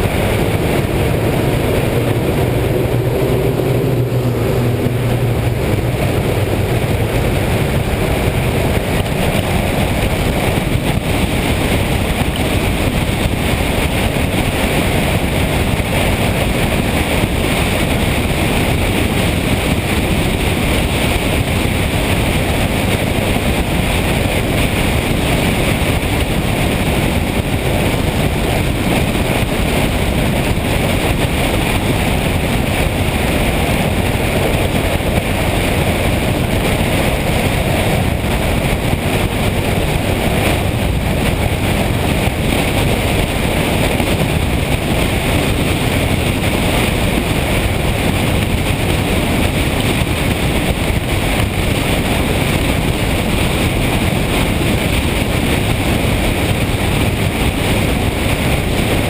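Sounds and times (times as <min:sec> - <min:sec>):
motorcycle road noise: 0:00.0 - 0:59.0
wind rushing: 0:00.0 - 0:59.0.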